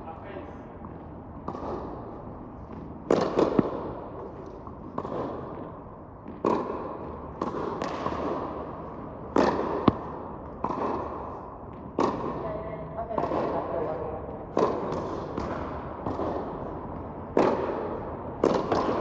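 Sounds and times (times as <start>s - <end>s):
tennis ball bouncing on court: 0.7s - 19.0s
tennis racket hitting ball: 1.4s - 12.4s, 14.5s - 19.0s.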